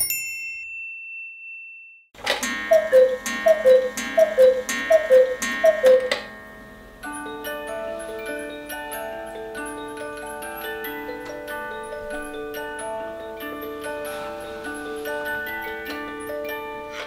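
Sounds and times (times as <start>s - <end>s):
music box tinkling melody: 0.0s - 17.0s
cuckoo clock calls: 2.2s - 17.0s.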